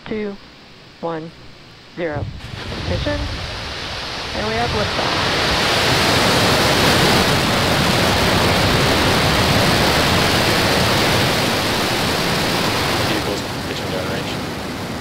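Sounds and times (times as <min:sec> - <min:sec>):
rocket exhaust roar: 0:02.4 - 0:15.0.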